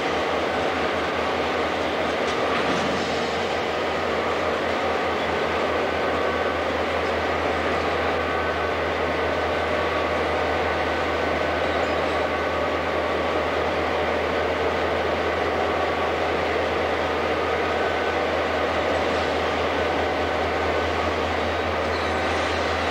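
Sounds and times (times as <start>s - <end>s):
diesel locomotive idling: 0.0s - 22.9s.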